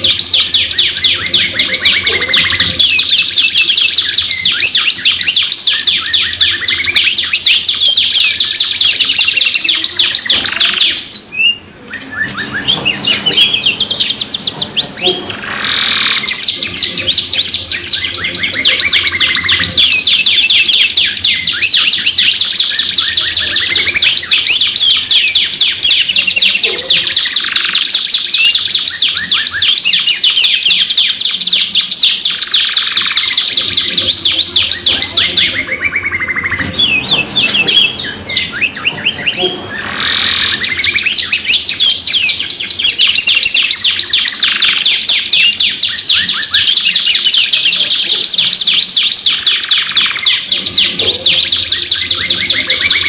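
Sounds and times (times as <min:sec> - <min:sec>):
canaries singing trills: 0:00.0 - 0:53.0.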